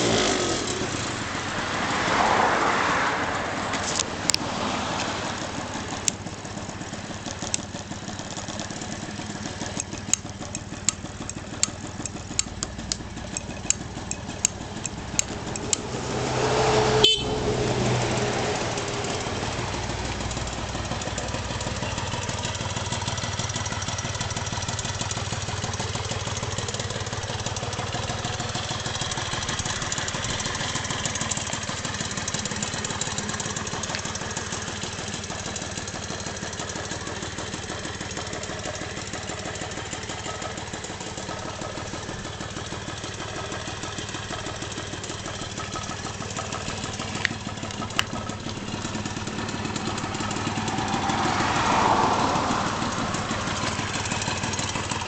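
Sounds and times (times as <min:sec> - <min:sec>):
scooter engine idling: 0:00.0 - 0:02.5, 0:03.2 - 0:55.0.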